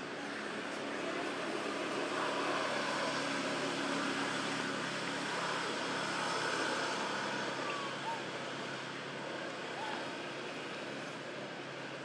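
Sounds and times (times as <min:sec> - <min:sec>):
outdoor background din: 0:00.0 - 0:12.0.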